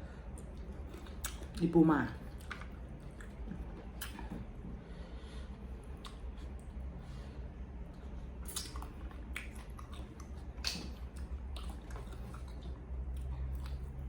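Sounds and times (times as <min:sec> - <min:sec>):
person chewing food: 0:00.0 - 0:01.6, 0:02.2 - 0:14.0
steady low hum: 0:00.0 - 0:14.0.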